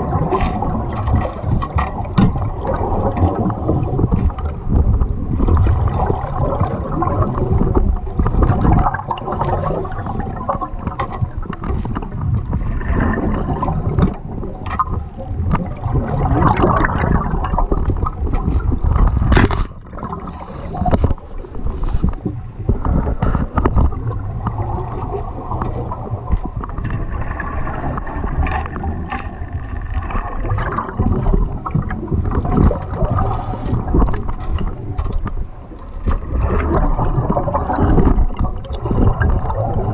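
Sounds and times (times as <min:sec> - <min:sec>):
diving gear knocking and scraping: 0:00.0 - 0:39.9
underwater bubbling and gurgling: 0:00.0 - 0:39.9.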